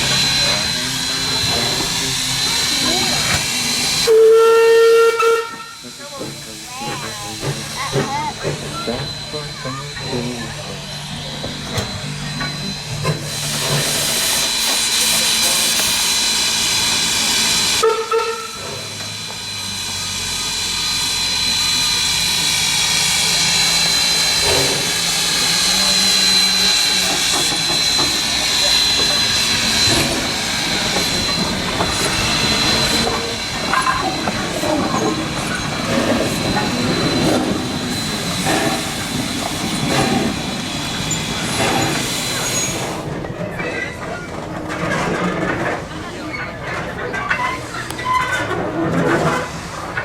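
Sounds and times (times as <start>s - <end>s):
steam hissing loudly: 0.0s - 43.2s
train wheels clattering on track: 0.0s - 50.0s.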